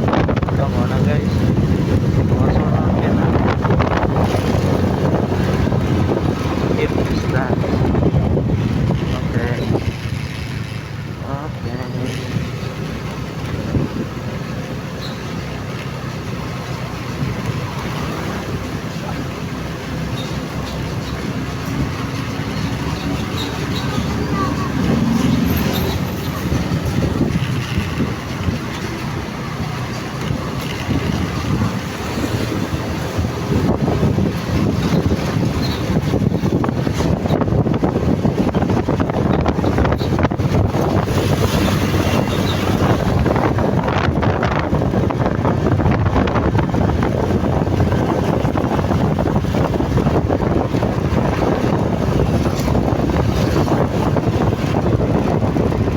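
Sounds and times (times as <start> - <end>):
motorcycle engine running: 0.0 - 55.9
road noise: 0.0 - 55.9
wind buffeting microphone: 0.0 - 55.9.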